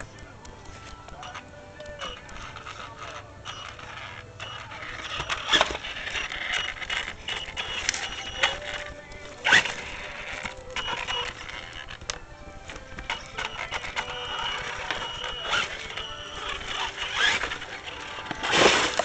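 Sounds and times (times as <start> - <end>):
electric motor whirring: 0.0 - 19.0
scattered clicks: 0.0 - 19.0
toy car knocking on rocks: 0.0 - 19.0.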